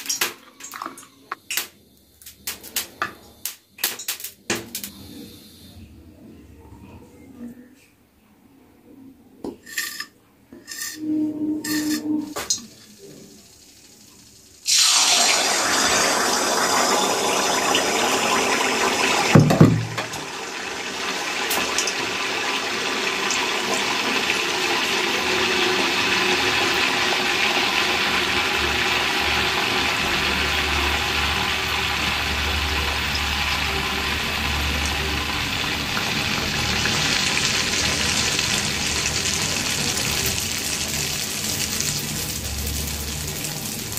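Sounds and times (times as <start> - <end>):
deep-fry sizzle and bubbling: 0.0 - 5.6, 10.6 - 43.9.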